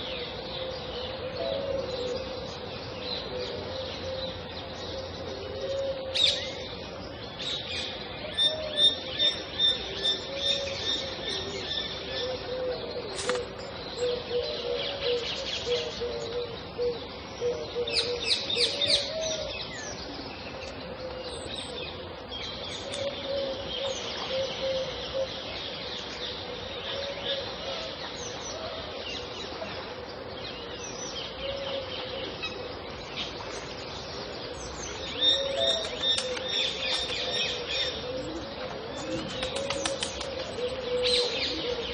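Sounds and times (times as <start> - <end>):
lower repeated bird calls: 7.4 - 41.9.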